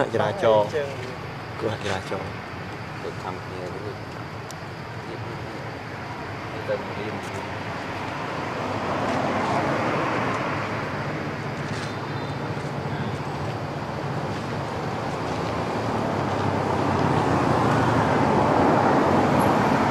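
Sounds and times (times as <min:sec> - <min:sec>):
road traffic noise: 0:00.0 - 0:19.9.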